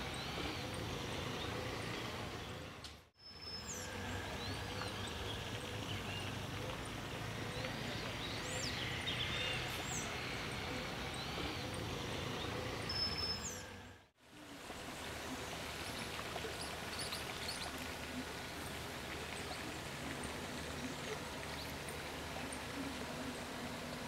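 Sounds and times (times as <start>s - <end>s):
birds chirping: 0.0s - 14.0s, 15.1s - 23.7s
outdoor background noise: 0.0s - 24.0s.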